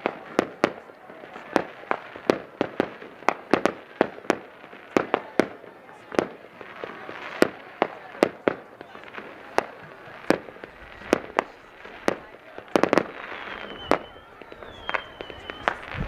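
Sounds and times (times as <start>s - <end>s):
faint fireworks crackling: 0.0s - 16.0s
fireworks bangs: 0.0s - 16.0s.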